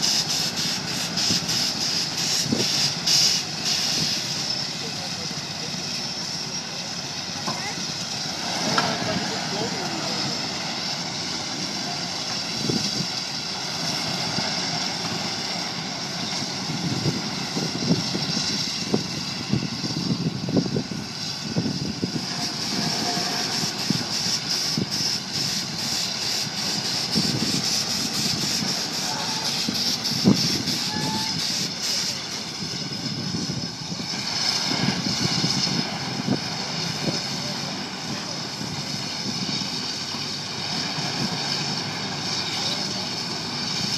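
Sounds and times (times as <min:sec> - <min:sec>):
steady hiss of steam: 0:00.0 - 0:43.9.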